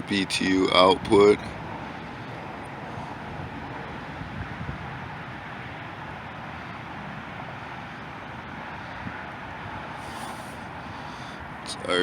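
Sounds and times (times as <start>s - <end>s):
wind rumbling on microphone: 0.8s - 12.0s.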